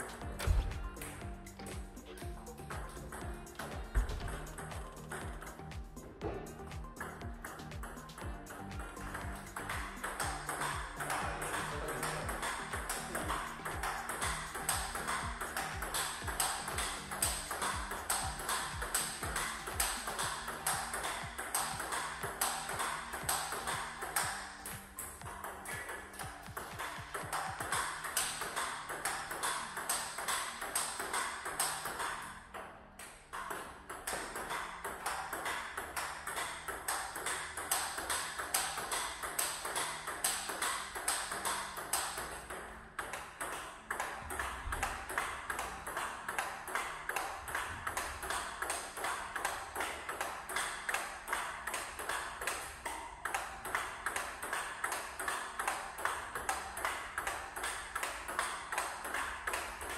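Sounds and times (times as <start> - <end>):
table tennis ball ticks: 0.0 - 59.9.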